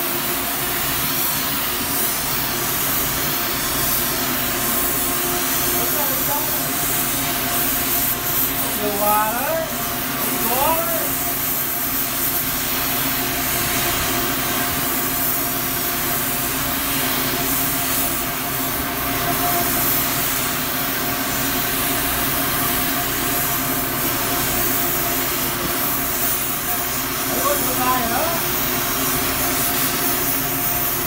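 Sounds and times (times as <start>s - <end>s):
gas torch hissing: 0.0s - 31.0s.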